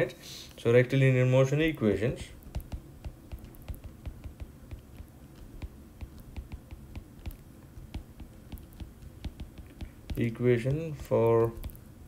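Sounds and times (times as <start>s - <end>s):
stylus tapping on glass screen: 1.9s - 11.9s.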